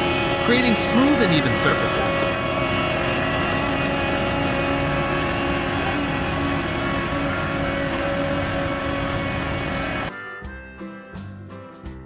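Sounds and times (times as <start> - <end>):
paver engine droning: 0.0 - 10.1.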